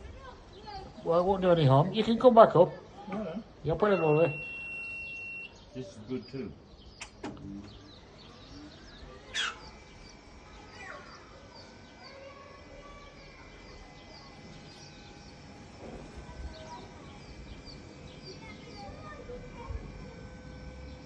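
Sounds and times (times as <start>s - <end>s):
faint steady hum: 0.0s - 21.0s
small birds chirping: 0.0s - 21.0s.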